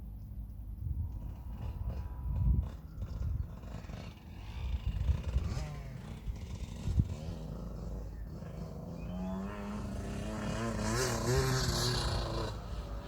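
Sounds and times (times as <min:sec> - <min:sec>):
dirt bike engine revving: 0:01.2 - 0:13.0.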